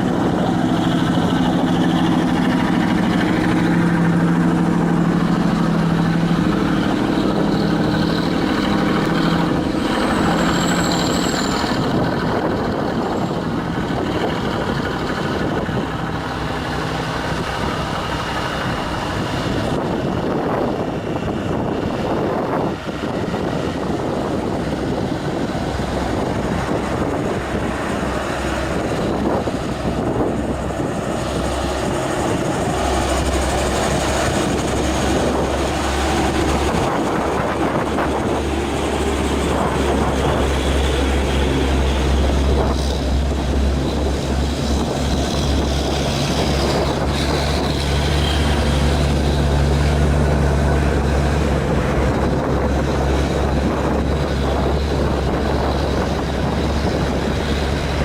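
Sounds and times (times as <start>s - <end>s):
deep low drone: 0.0s - 58.0s
truck diesel engine under load: 0.0s - 58.0s.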